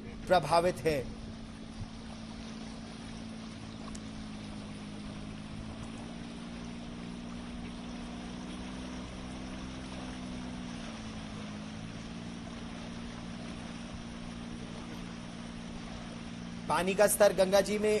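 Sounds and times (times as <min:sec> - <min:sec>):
outboard motor drone: 0:00.0 - 0:18.0
rushing water and wind: 0:00.0 - 0:18.0.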